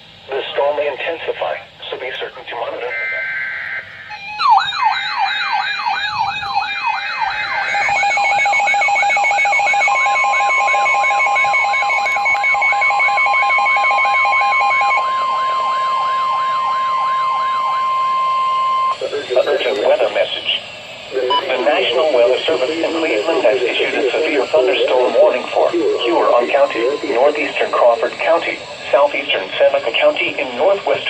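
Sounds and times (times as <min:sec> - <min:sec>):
electronic sirens yelping: 0:02.6 - 0:31.0
data tones burst: 0:02.8 - 0:31.0
warning alarm tone: 0:02.8 - 0:31.0.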